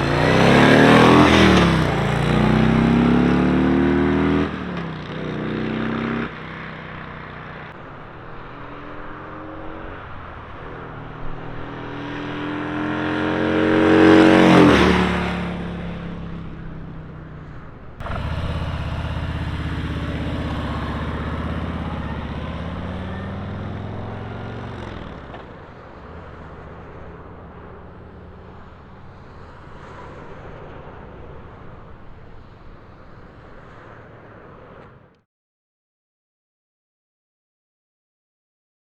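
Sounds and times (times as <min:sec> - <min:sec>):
motorcycle engine passing by: 0:00.0 - 0:35.1.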